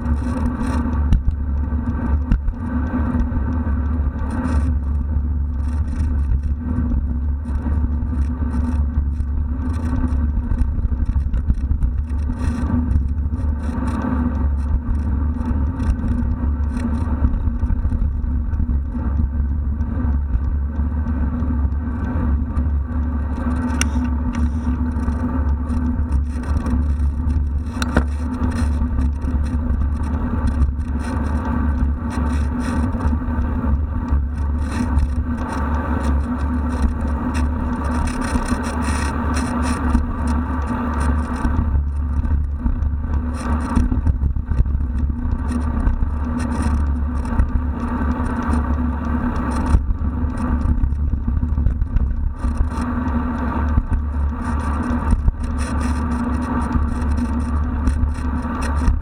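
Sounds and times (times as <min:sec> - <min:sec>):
bicycle knocks and rattles: 0:00.0 - 0:59.0
wind rumble: 0:00.0 - 0:59.0.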